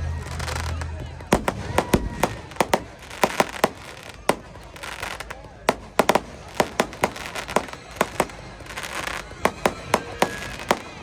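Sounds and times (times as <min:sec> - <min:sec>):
fireworks bangs: 0:00.0 - 0:11.0
fireworks crackling hiss: 0:00.0 - 0:11.0.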